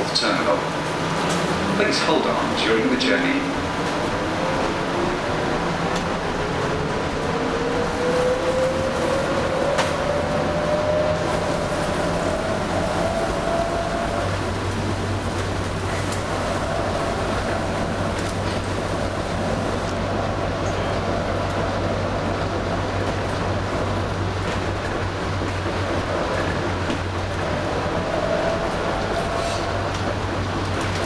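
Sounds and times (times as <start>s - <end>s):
train ride rumble: 0.0s - 31.0s.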